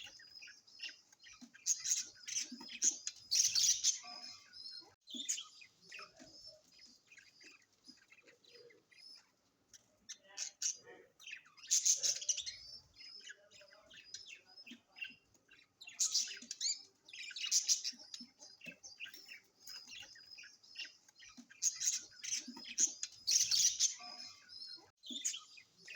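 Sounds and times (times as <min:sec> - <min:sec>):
birds squawking chatter: 0:00.0 - 0:25.9
small birds chirping: 0:00.0 - 0:25.9.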